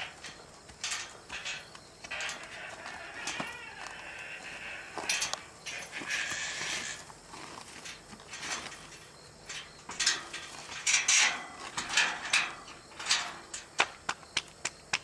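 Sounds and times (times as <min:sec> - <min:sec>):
metal pipe gate rattling: 0:00.0 - 0:07.1, 0:07.8 - 0:14.0
gate scraping: 0:00.0 - 0:13.9.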